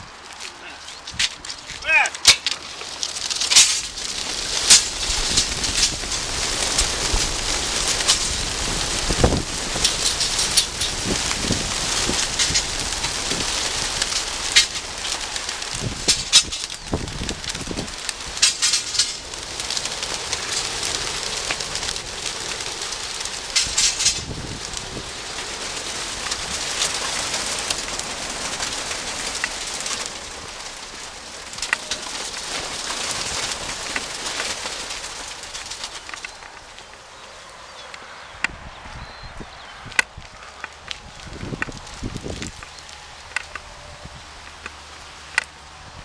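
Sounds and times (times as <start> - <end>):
pigeon wings flapping: 0.0 - 37.1.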